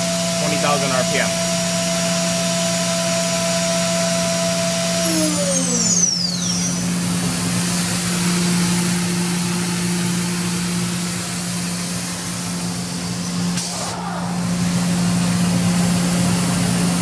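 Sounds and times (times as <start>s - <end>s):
machine low hum: 0.0s - 17.0s
machine spindle whining: 0.0s - 17.0s.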